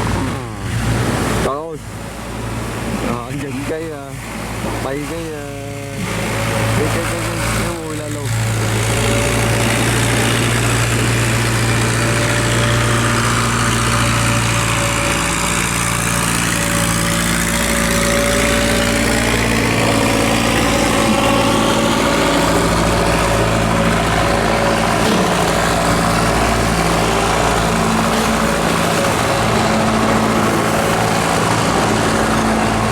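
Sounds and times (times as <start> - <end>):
heavy diesel engine drone: 0.0 - 32.9.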